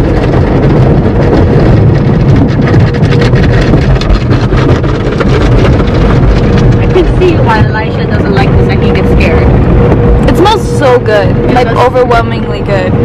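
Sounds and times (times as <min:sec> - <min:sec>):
car wash scrubbing and splashing: 0:00.0 - 0:13.0.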